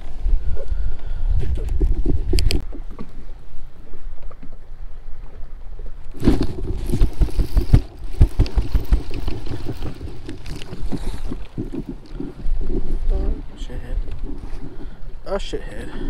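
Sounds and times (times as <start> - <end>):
wind buffeting microphone: 0.0 - 3.8, 5.5 - 16.0
water lapping at kayak: 0.0 - 16.0.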